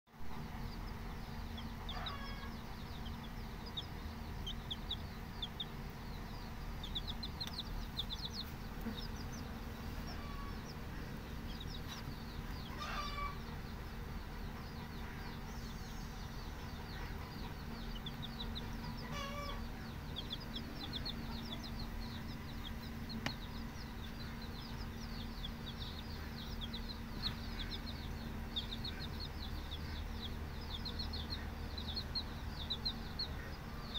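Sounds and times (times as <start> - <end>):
baby chicks peeping: 0.1 - 33.9
low steady hum: 0.1 - 33.9.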